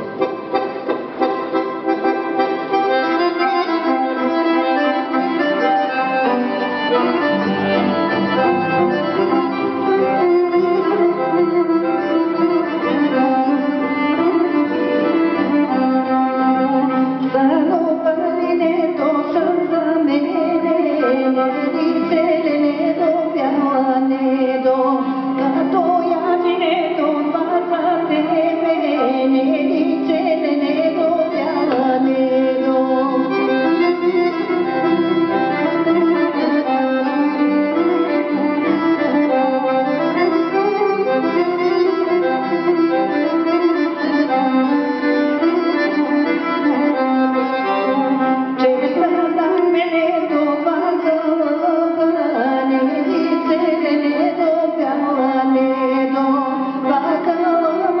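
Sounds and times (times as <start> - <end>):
accordion: 0.0 - 58.0
bowed fiddle: 0.0 - 58.0.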